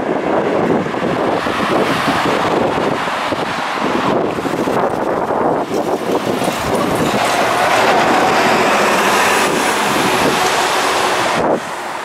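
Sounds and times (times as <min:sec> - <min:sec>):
bus pulling away and passing: 0:00.0 - 0:12.0.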